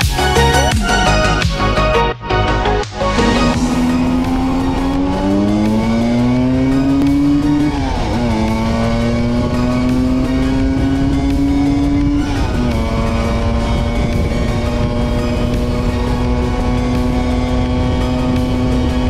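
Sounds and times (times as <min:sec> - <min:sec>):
scooter engine revving: 0:03.0 - 0:19.0.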